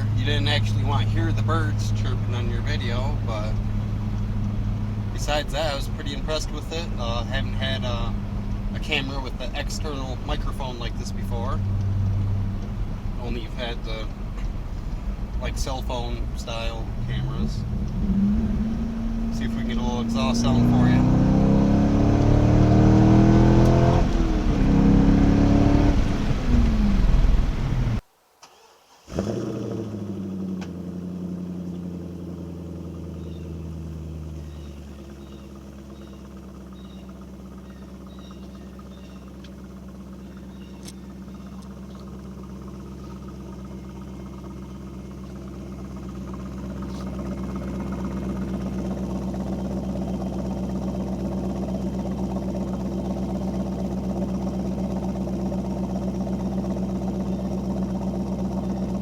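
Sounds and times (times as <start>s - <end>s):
car engine idling: 0.0s - 28.0s, 28.6s - 59.0s
car engine revving: 0.0s - 28.0s, 28.9s - 59.0s.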